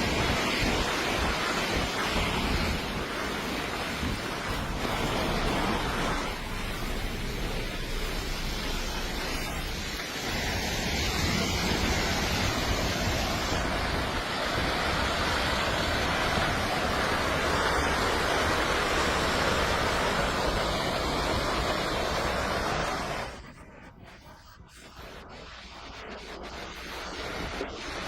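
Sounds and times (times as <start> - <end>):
loud rushing noise: 0.0 - 23.4.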